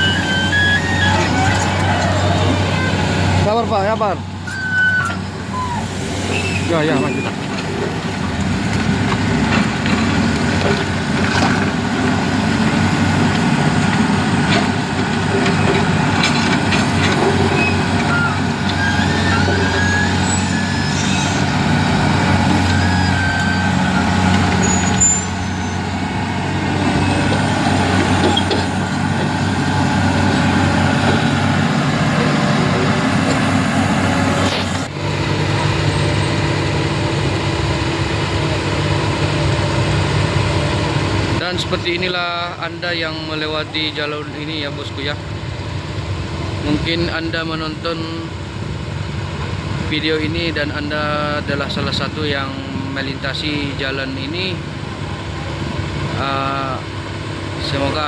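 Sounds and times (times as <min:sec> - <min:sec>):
heavy truck engines droning: 0:00.0 - 0:58.0.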